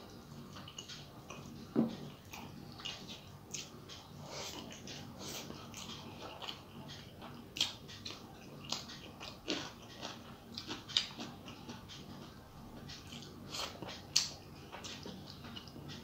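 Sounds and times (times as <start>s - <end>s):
person chewing with mouth smacks: 0.3s - 16.0s.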